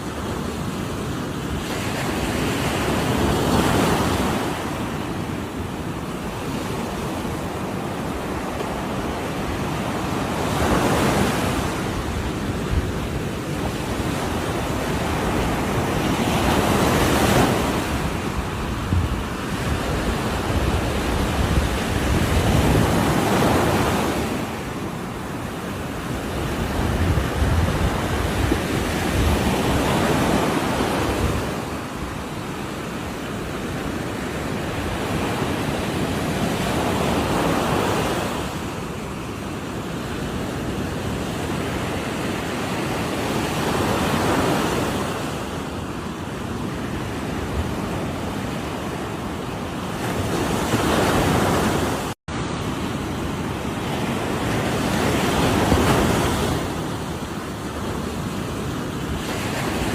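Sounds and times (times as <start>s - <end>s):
ocean waves crashing on shore: 0.0s - 59.9s.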